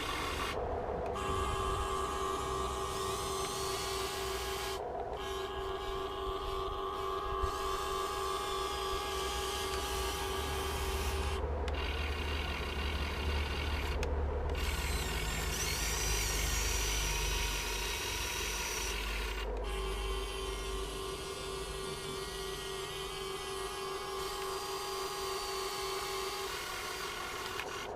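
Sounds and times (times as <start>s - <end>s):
electric motor whine with gear rasp: 0.0s - 27.9s.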